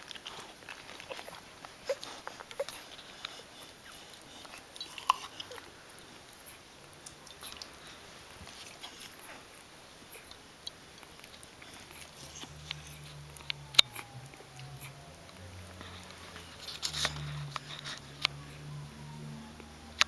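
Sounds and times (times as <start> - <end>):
low steady hum: 0.0 - 20.0
puppies suckling: 0.0 - 20.0.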